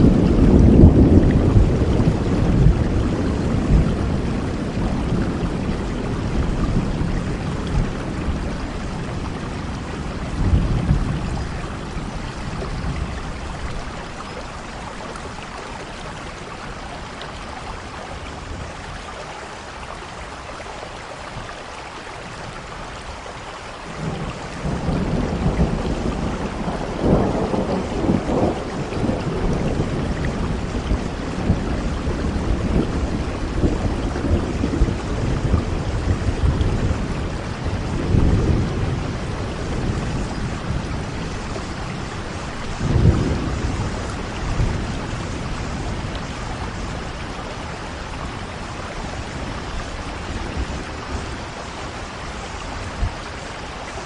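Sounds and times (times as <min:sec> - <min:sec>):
rolling thunder: 0:00.0 - 0:15.6, 0:23.9 - 0:53.4
heavy rain falling: 0:00.0 - 0:54.0.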